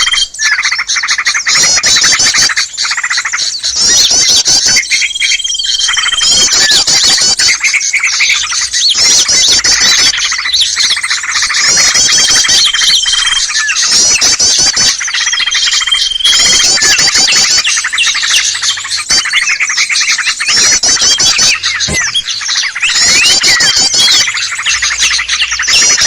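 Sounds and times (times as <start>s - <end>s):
high bird trill: 0.0s - 26.0s
songbirds chirping and chattering: 0.0s - 26.0s.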